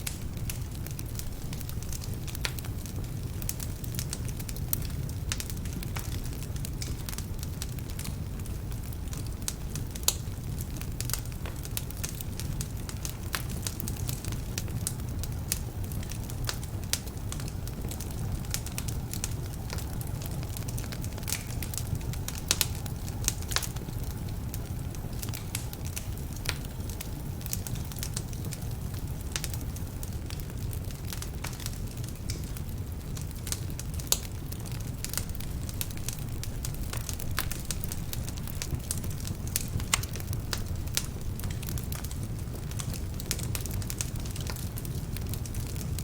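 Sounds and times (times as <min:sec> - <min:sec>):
logs crackling and popping: 0:00.0 - 0:46.0
low rumble of flames: 0:00.0 - 0:46.0.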